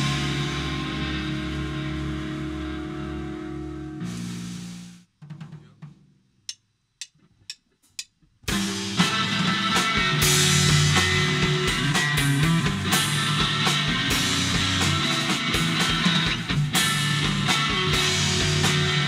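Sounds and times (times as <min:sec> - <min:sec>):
electric guitar: 0:00.0 - 0:04.9, 0:08.5 - 0:19.0
bass guitar: 0:00.0 - 0:05.1, 0:08.5 - 0:19.0
drum kit: 0:00.0 - 0:19.0.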